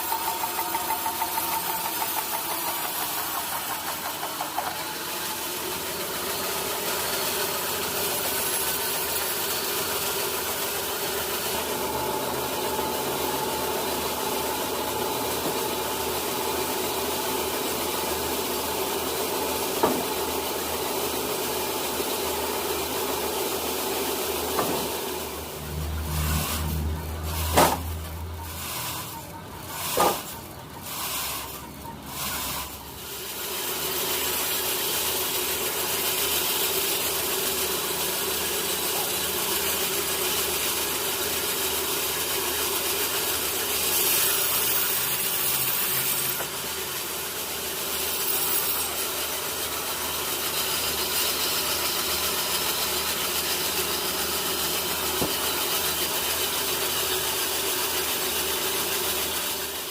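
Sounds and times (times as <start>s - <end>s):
sawmill blade cutting log: 0.0s - 59.9s.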